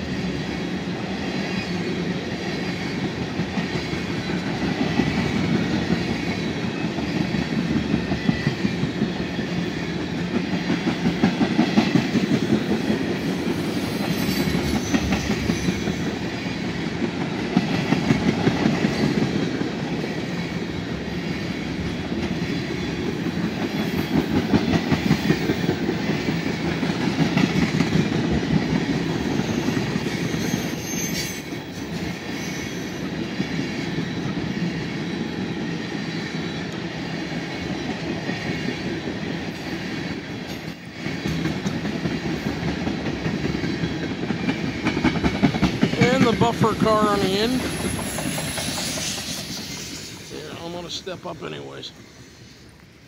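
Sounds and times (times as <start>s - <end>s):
freight train wheels clacking: 0.0s - 52.9s.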